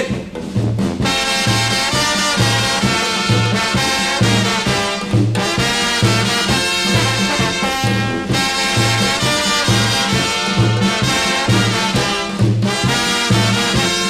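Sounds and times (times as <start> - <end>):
brass band playing: 0.0 - 14.0
steady bass beat: 0.0 - 14.0.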